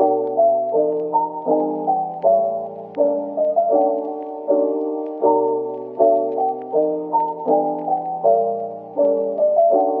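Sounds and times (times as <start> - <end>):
gentle keyboard melody: 0.0 - 10.0.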